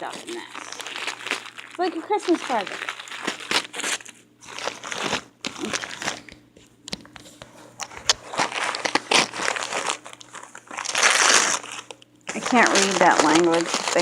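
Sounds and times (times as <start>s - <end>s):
plastic wrap crinkling: 0.0s - 6.8s, 7.7s - 14.0s.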